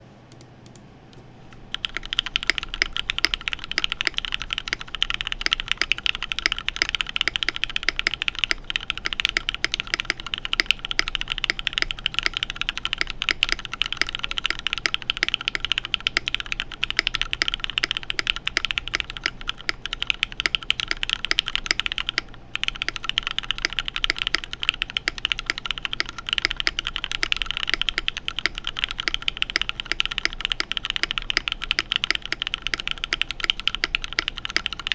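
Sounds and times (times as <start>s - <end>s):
fast typing on mechanical keyboard: 1.5s - 34.9s.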